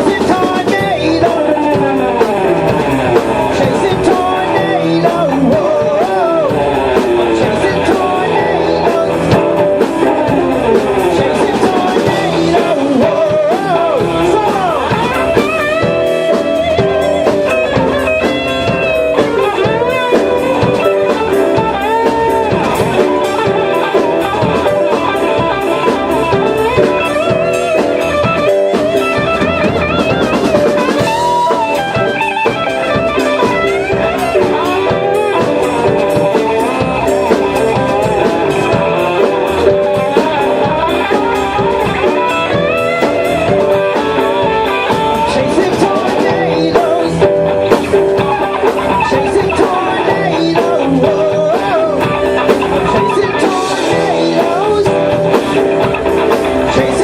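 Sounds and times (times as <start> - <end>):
bass guitar: 0.0 - 57.0
drum kit beat: 0.0 - 57.0
electric guitar solo: 0.0 - 57.0.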